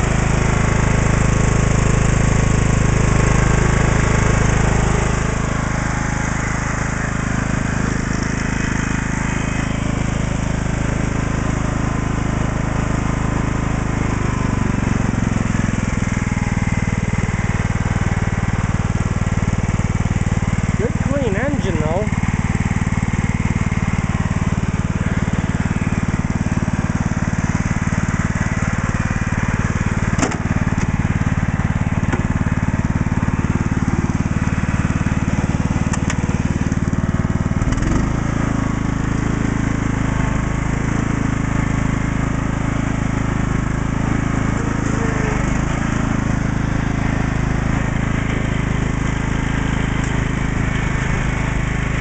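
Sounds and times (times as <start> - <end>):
lawn tractor engine running: 0.0 - 52.0.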